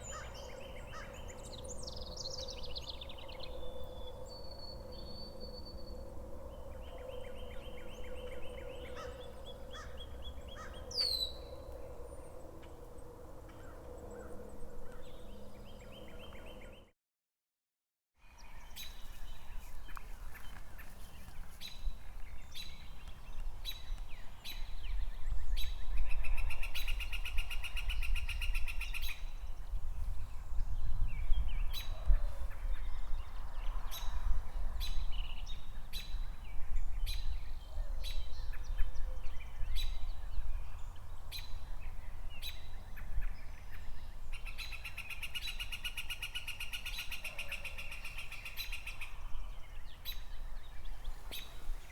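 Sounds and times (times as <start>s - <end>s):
songbirds chirping: 0.0s - 17.0s, 18.2s - 51.9s.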